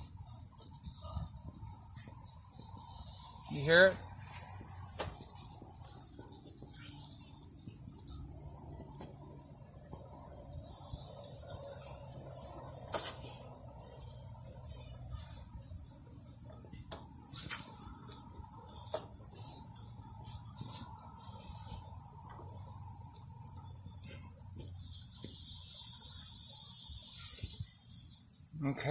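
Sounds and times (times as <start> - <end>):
air hissing out of a tire: 1.0 - 6.1, 8.9 - 16.0, 17.2 - 28.5.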